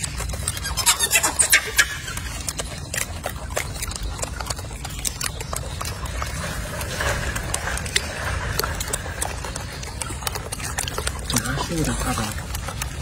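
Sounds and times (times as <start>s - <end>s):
monkeys chewing leaves: 0.0s - 13.0s.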